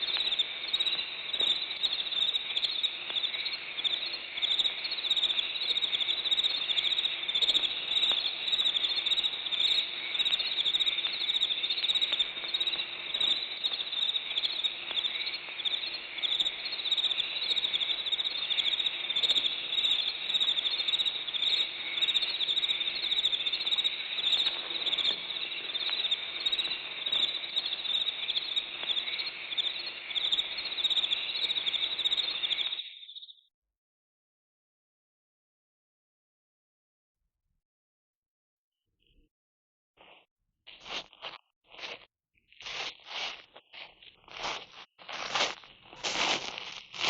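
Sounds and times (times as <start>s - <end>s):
crickets chirping: 0.0s - 33.4s, 42.7s - 47.0s.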